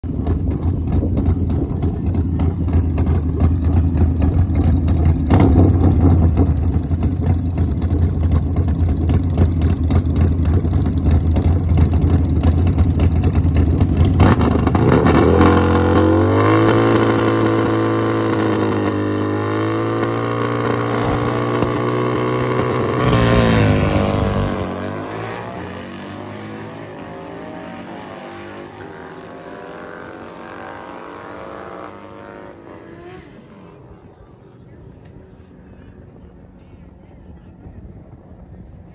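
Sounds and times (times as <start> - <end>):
motorcycle engines rumbling: 0.0 - 38.9
motorcycles accelerating: 0.0 - 38.9.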